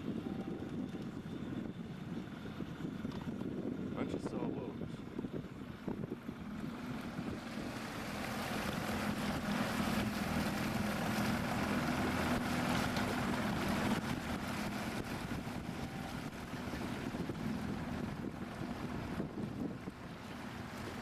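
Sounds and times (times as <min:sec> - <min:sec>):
motorboat engine running: 0:00.0 - 0:21.0
water against hull: 0:00.0 - 0:21.0
wind on microphone: 0:00.0 - 0:21.0.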